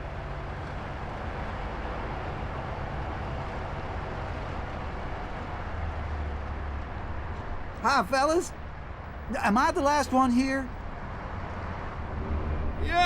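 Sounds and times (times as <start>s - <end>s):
truck engine rumbling: 0.1s - 13.0s.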